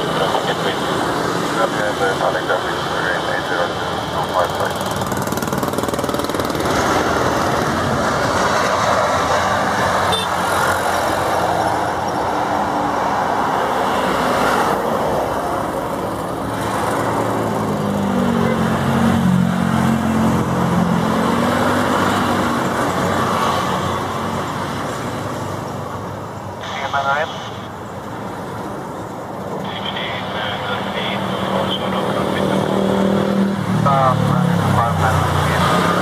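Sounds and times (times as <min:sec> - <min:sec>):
jet engines rushing: 0:00.0 - 0:36.0.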